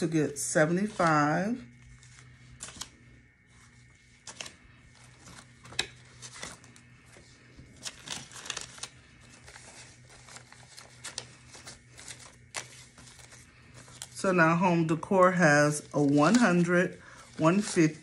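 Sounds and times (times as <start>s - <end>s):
faint steady hum: 0.0s - 18.0s
paper banknotes rustling: 0.0s - 18.0s.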